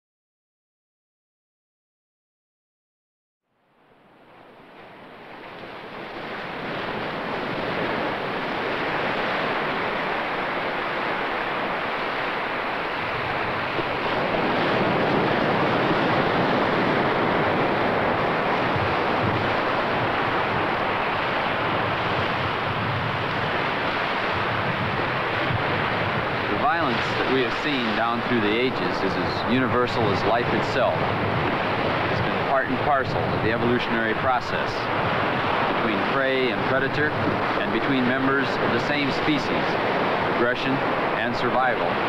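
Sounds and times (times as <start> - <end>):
ocean surf breaking: 3.8 - 42.0.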